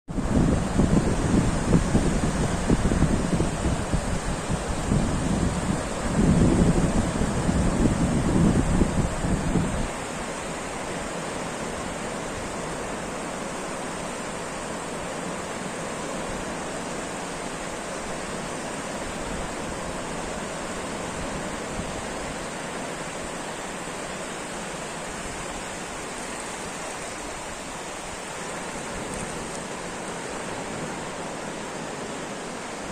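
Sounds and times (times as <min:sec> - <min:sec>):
ocean surf rushing: 0:00.1 - 0:32.9.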